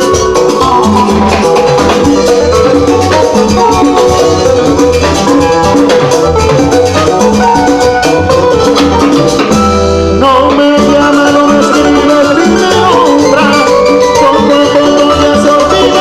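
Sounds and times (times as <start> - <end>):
maracas: 0.0 - 16.0
salsa band playing: 0.0 - 16.0.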